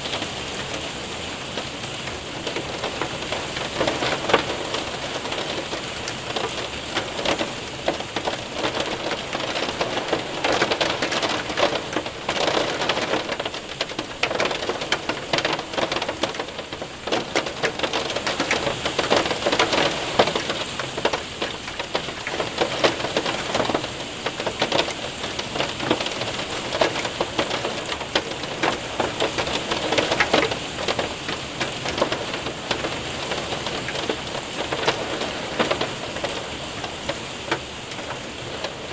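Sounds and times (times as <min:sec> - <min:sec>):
hail and rain on window: 0:00.0 - 0:38.9.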